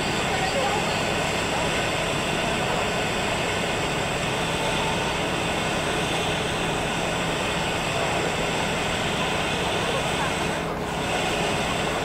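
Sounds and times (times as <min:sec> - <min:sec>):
city background rumble and hiss: 0:00.0 - 0:12.0.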